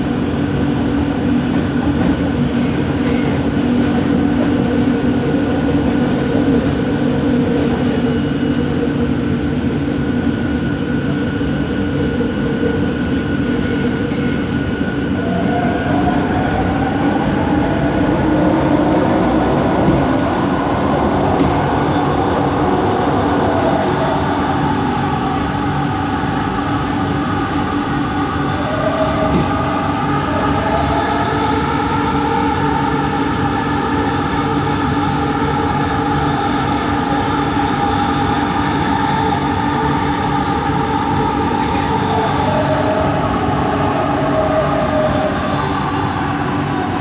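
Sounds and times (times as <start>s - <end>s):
wheels rumbling on track: 0.0s - 47.0s.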